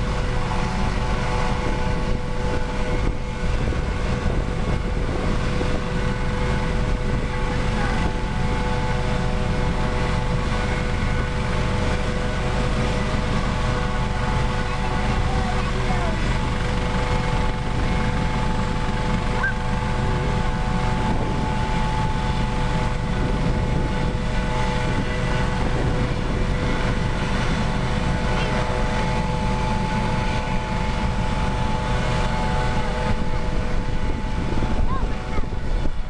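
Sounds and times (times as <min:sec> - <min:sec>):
helicopter engines whining: 0:00.0 - 0:36.0
rotor rumble: 0:00.0 - 0:36.0.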